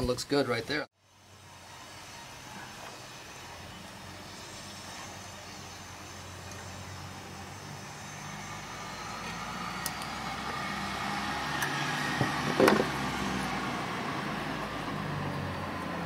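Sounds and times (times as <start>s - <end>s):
engine drone: 1.0s - 16.0s.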